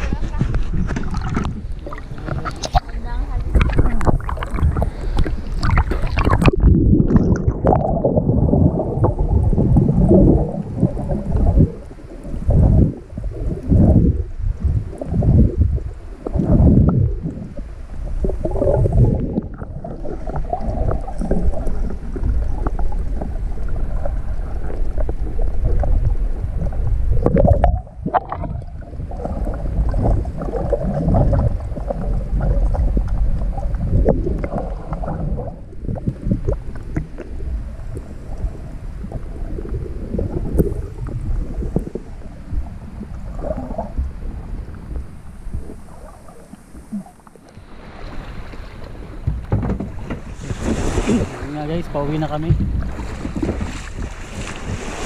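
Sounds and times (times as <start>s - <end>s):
underwater rumbling and gurgling: 0.0s - 55.0s.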